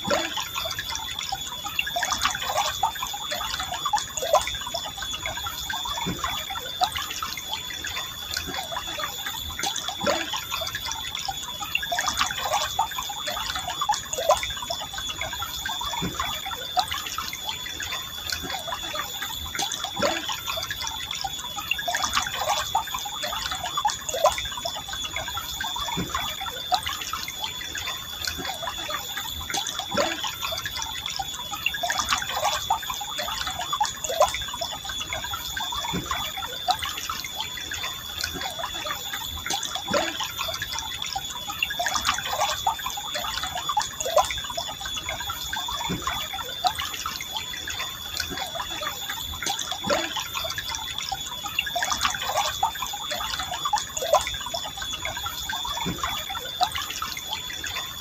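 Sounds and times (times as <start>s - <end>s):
steady high-pitched tone: 0.0s - 58.0s
water gurgles and drips: 0.0s - 58.0s.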